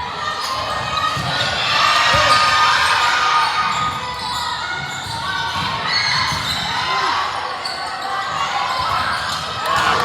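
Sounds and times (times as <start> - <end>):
spectators chattering and calling: 0.0 - 10.0.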